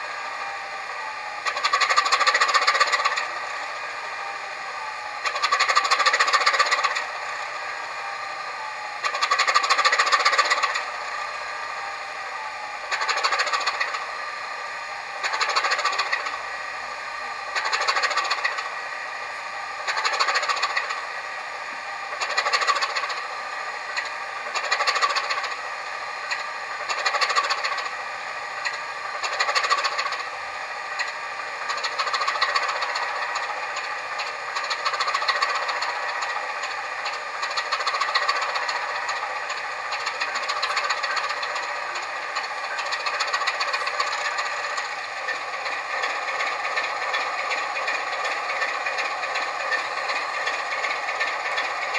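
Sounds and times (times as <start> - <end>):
model locomotive engine sound: 0.0 - 51.9.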